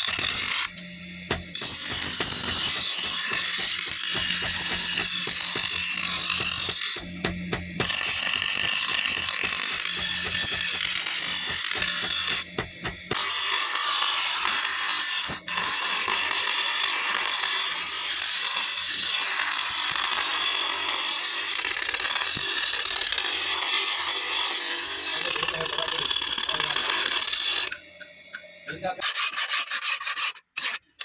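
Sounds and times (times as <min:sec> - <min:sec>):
tool rasping on steel blade: 0:00.0 - 0:31.0.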